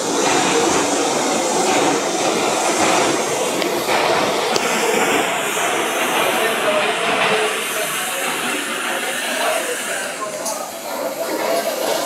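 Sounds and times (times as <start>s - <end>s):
subway train rushing through tunnel: 0.0s - 12.0s.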